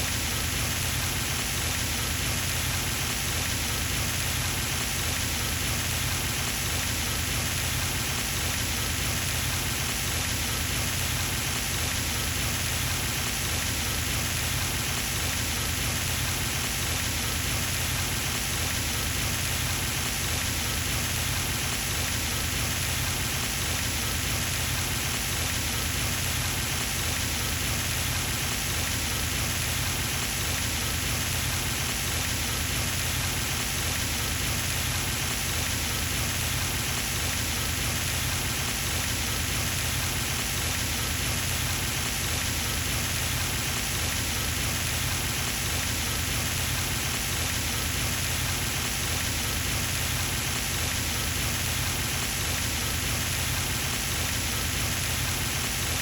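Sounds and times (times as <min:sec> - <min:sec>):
fountain water splashing: 0:00.2 - 0:56.0.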